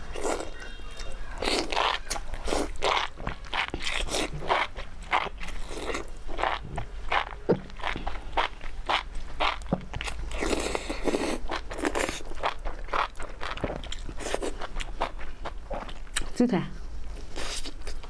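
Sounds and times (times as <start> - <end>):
wet crunchy chewing: 1.4 - 16.3, 17.4 - 18.0.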